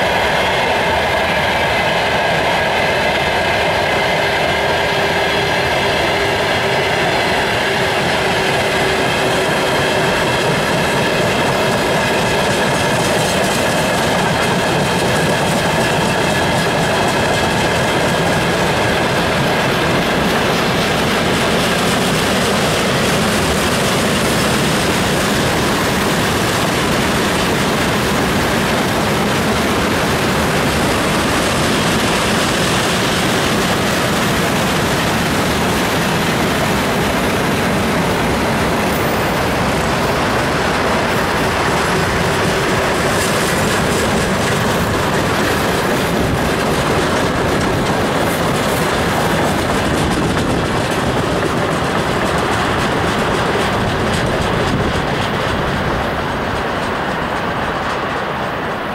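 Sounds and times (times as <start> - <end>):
freight train wheels on rails: 0.0 - 58.9.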